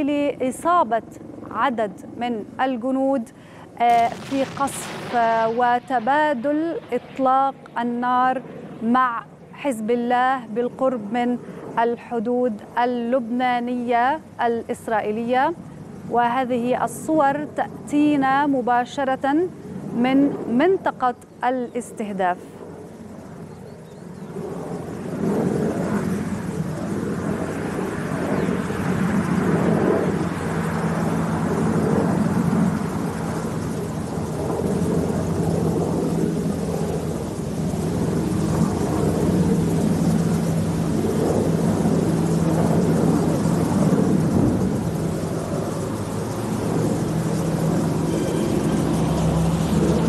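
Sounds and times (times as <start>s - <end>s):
low rumble with droning hum: 0.0s - 20.7s, 24.4s - 50.0s.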